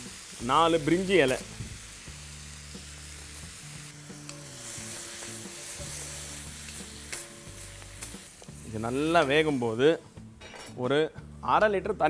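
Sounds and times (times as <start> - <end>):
vegetables sizzling in a wok: 0.0 - 10.3
soft background music: 0.0 - 12.0.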